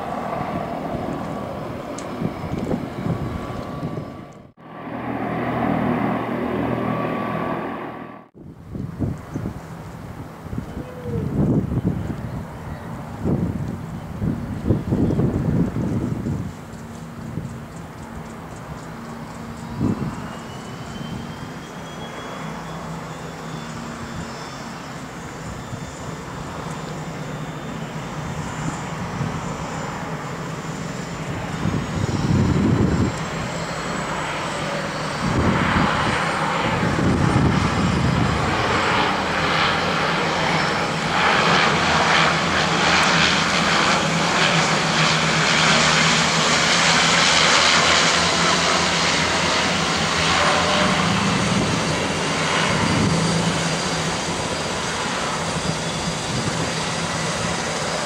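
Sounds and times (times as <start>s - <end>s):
propeller plane engines: 0.0s - 58.0s.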